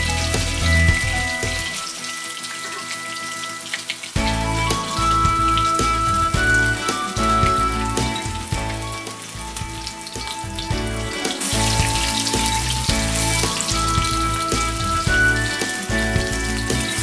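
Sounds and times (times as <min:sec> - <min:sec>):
background music: 0:00.0 - 0:17.0
fritters sizzling in hot oil: 0:00.0 - 0:17.0.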